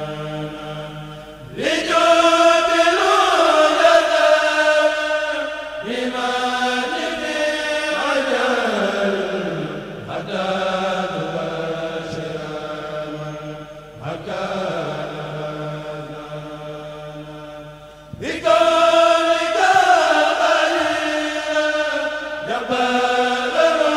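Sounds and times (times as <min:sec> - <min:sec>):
man chanting unaccompanied: 0:00.0 - 0:23.9.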